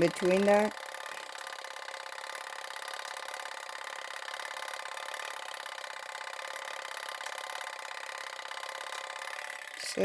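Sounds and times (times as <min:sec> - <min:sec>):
rapid clicking of gears: 0:00.0 - 0:10.0.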